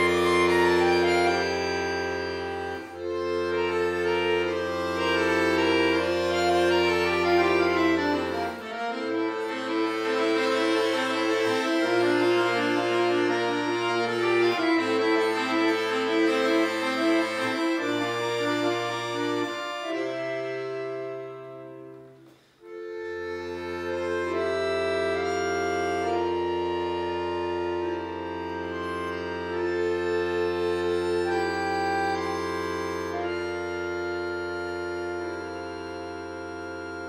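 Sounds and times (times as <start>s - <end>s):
button accordion playing: 0.0s - 37.0s.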